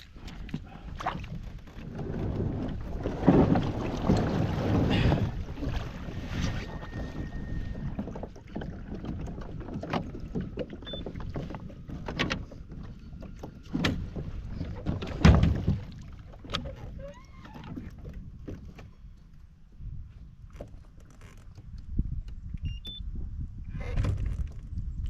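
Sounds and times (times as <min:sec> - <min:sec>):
knocks and thumps against hull: 0:00.0 - 0:19.5, 0:23.8 - 0:25.0.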